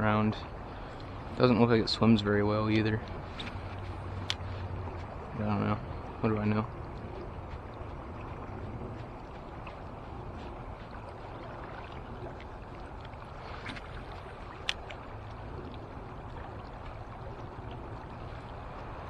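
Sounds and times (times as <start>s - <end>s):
river water rushing: 0.4s - 19.0s.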